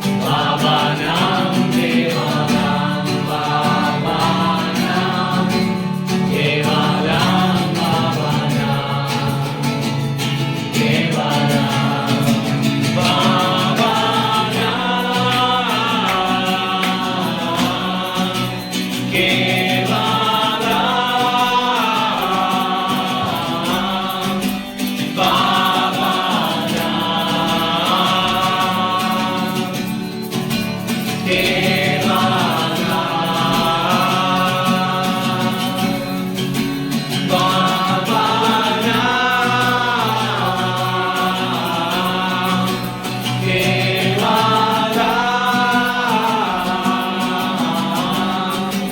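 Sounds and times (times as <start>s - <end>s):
instrumental accompaniment: 0.0s - 48.9s
voices singing: 0.0s - 48.9s.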